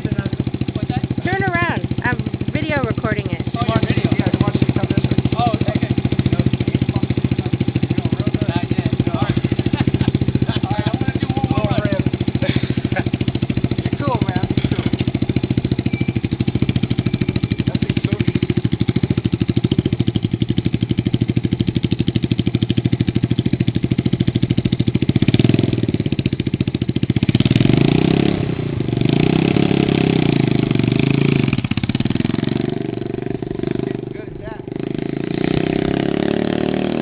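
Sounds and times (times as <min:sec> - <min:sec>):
mini bike engine revving: 0:00.0 - 0:37.0.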